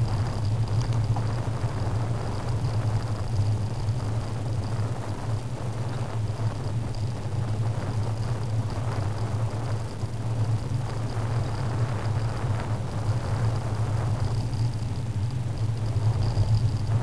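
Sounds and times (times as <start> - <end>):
bicycle tyres rolling: 0.0 - 17.0
low hum: 0.0 - 17.0
wind on microphone: 0.0 - 17.0.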